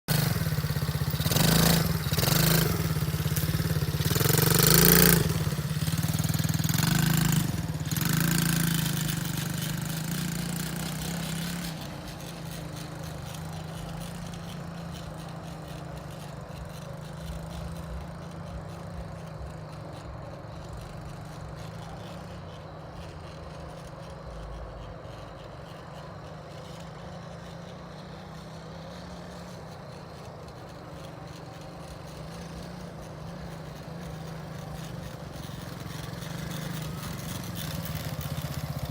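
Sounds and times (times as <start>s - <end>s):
dirt bike engine revving: 0.1s - 38.9s.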